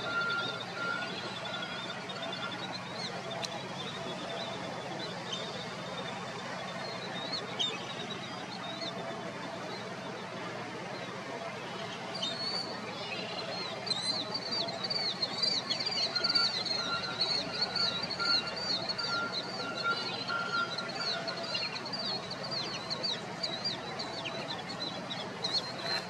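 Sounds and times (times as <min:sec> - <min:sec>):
shorebirds chirping: 0:00.0 - 0:26.0.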